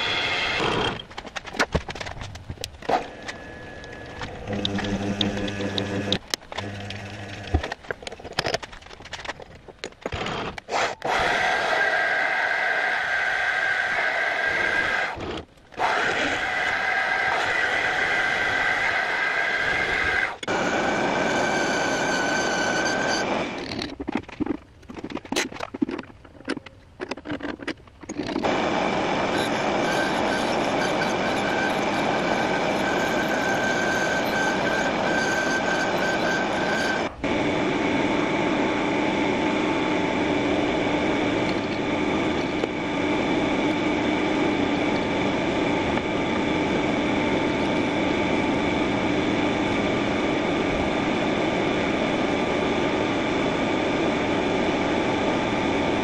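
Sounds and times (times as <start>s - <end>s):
high-speed spindle whining: 2.8s - 7.7s, 11.0s - 23.7s, 28.4s - 56.0s.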